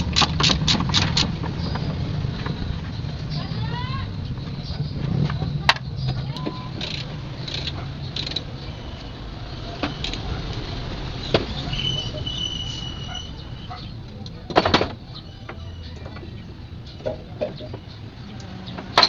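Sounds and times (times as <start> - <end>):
birds chirping: 0.0 - 19.0
loud metal clatter: 0.0 - 19.0.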